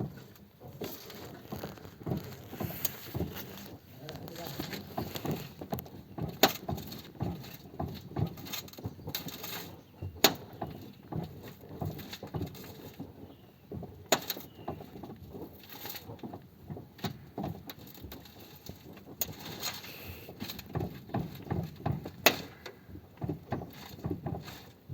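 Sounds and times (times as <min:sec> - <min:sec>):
steering knocking and clicking: 0:00.0 - 0:24.9.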